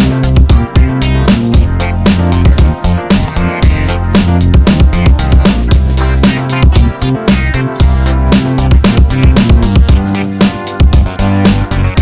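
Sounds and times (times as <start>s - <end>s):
electronic music: 0.0s - 12.0s
steady drum beat: 0.0s - 12.0s.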